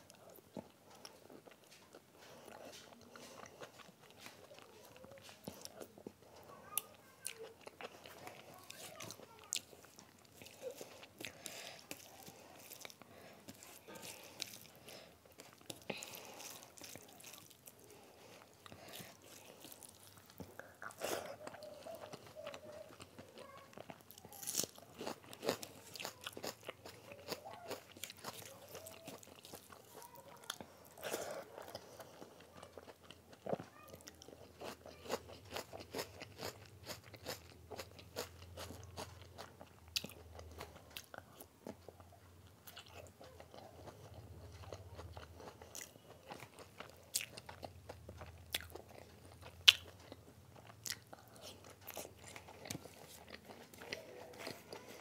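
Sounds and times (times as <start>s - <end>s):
person chewing with wet clicks: 0.0s - 55.0s.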